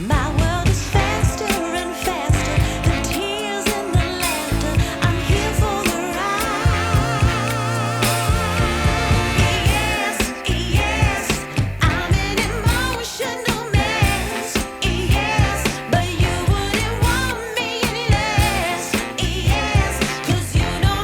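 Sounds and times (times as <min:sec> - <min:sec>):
pop music with singing: 0:00.0 - 0:21.0.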